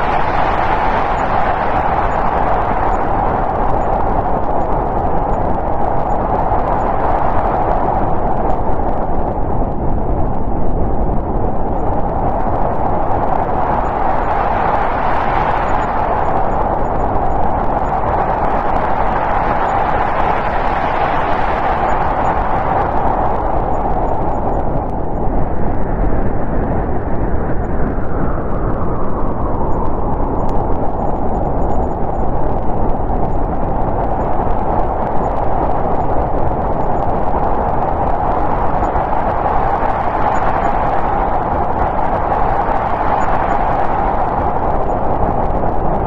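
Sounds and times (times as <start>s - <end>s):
storm wind whistling: 0.0s - 46.0s.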